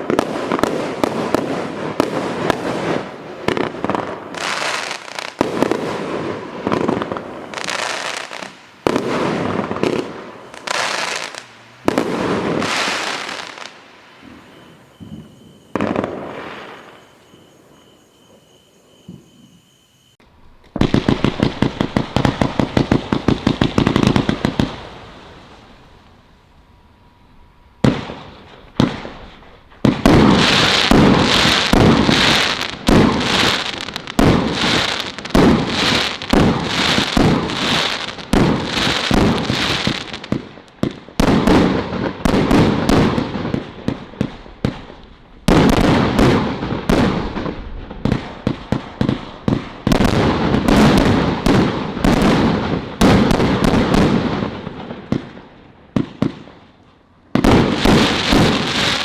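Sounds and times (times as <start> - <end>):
fireworks bangs: 0.0 - 26.5, 27.4 - 59.0.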